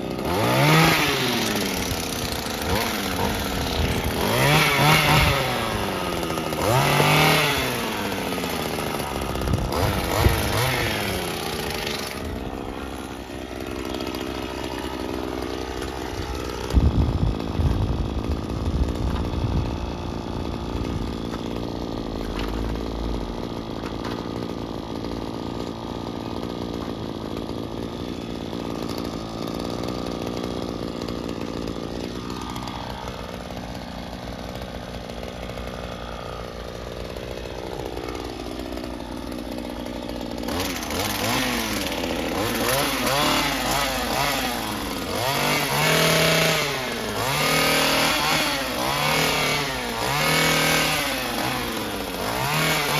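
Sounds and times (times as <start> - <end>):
small petrol engine running: 0.0 - 52.9.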